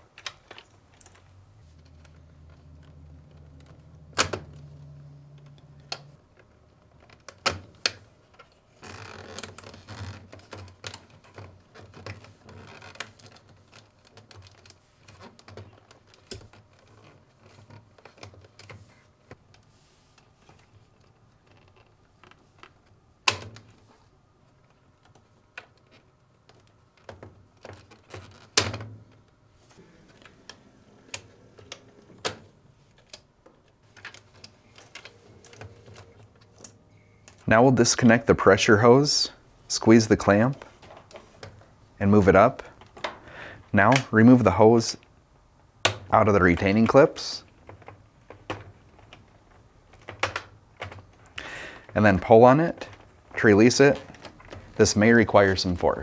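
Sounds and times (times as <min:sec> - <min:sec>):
wires rustling: 0:00.0 - 0:56.0.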